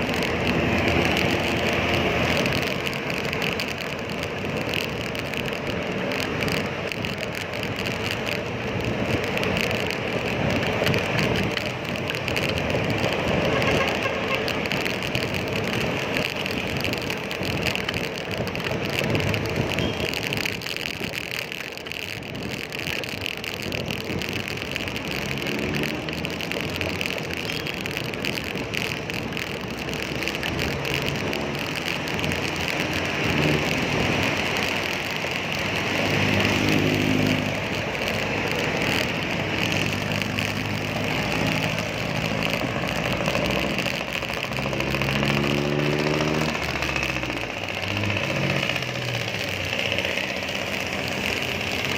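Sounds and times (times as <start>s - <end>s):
passing vehicles: 0.0s - 51.9s
road traffic rushing: 0.0s - 51.9s.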